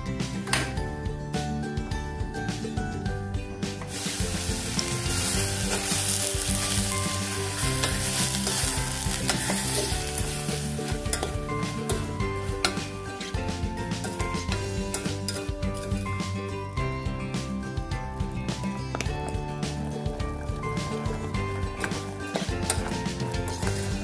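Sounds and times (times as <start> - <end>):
apple slices sizzling in a pot: 3.8 - 24.0.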